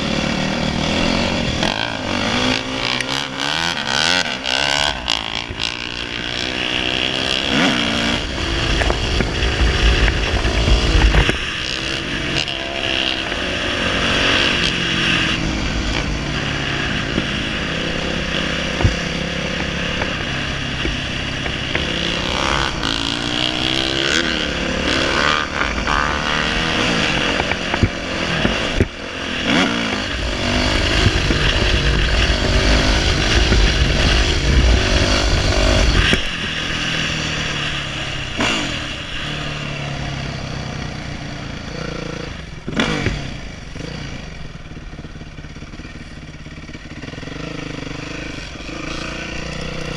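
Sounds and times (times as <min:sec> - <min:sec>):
dirt bike engine revving: 0:00.0 - 0:49.9
low wind rumble: 0:00.0 - 0:49.9.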